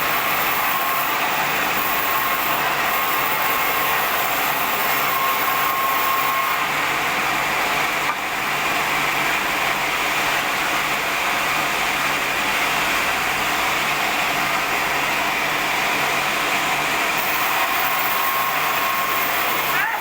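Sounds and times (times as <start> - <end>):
band saw running: 0.0 - 20.0.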